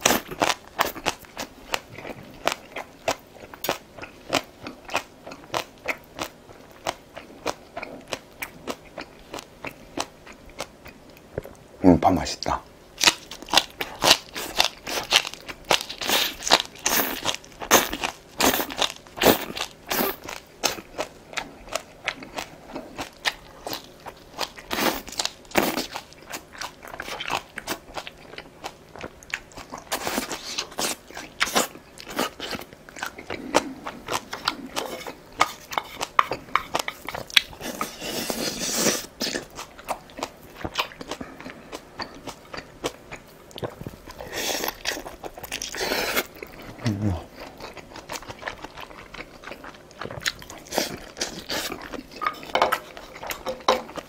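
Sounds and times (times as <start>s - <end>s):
crunchy chewing: 0.0s - 11.6s, 13.0s - 54.0s.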